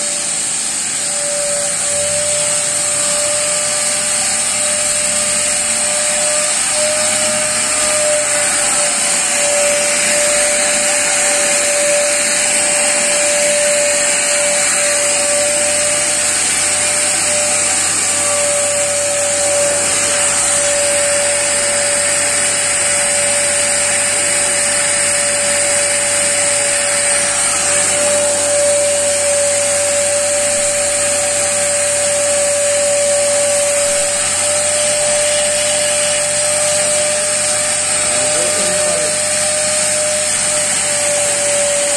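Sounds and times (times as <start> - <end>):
cleaning machine whirring hiss: 0.0 - 41.9
mid-pitched machine whine: 0.0 - 41.9.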